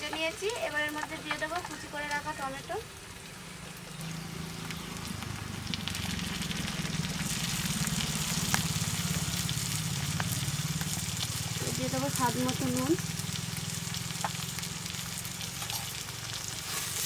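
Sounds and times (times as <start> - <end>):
tomatoes sizzling in oil: 0.0 - 17.0.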